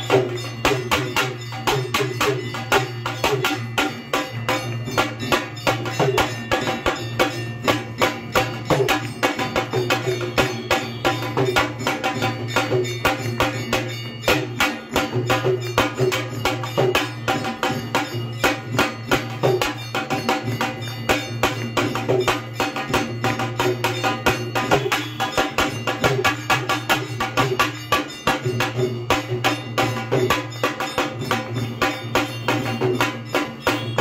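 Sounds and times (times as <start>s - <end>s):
drum beating: 0.0s - 34.0s.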